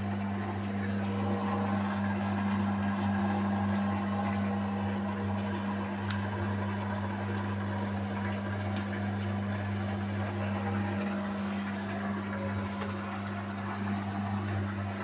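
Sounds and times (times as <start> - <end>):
washing machine spinning hum: 0.0 - 15.0.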